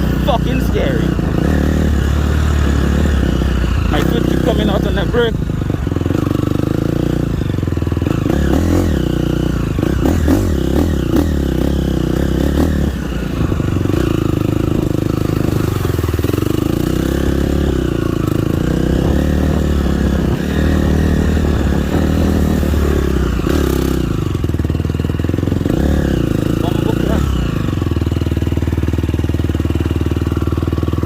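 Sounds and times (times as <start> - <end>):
dirt bike engine at low revs: 0.0 - 31.0.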